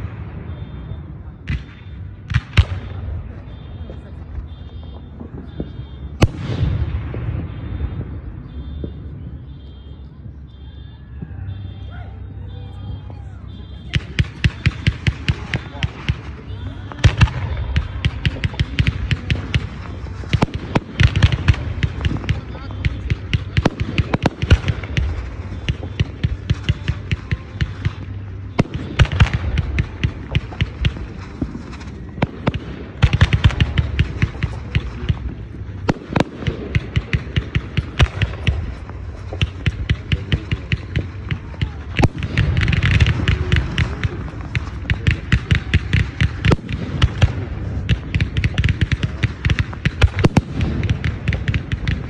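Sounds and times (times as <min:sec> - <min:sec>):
fireworks bangs and crackles: 0:00.0 - 0:52.0
heavy fireworks booming: 0:00.0 - 0:52.0.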